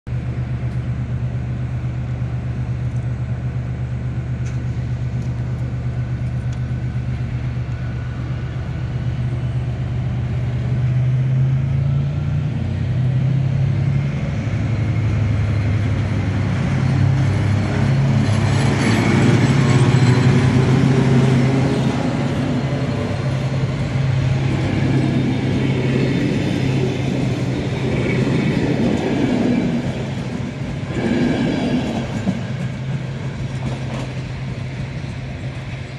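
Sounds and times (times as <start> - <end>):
diesel locomotive engine drone: 0.0 - 35.9
train wheels on rails: 0.1 - 35.9.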